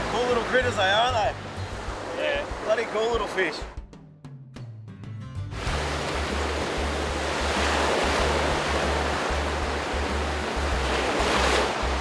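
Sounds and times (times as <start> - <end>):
ocean surf breaking: 0.0 - 3.7, 5.6 - 12.0
background music with bass: 0.0 - 12.0.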